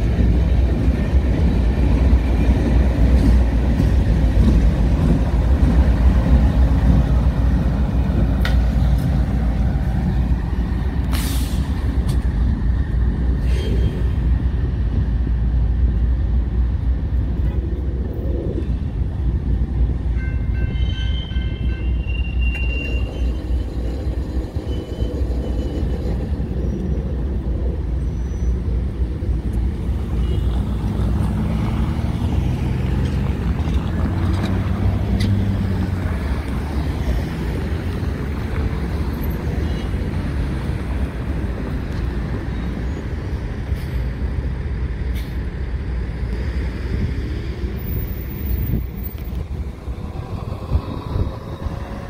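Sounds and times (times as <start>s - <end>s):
train engine: 0.0s - 52.0s
train rumbling by: 0.0s - 52.0s.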